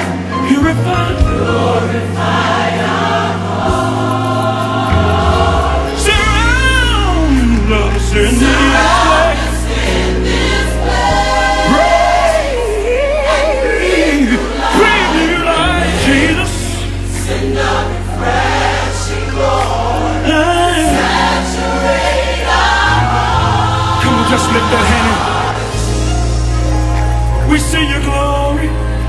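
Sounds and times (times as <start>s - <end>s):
choir singing sustained chords: 0.0s - 27.7s
steady bass: 0.0s - 29.0s.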